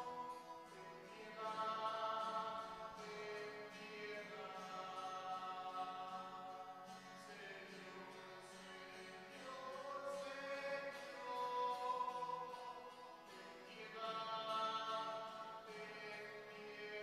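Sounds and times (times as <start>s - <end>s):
liturgical singing: 0.0s - 17.0s.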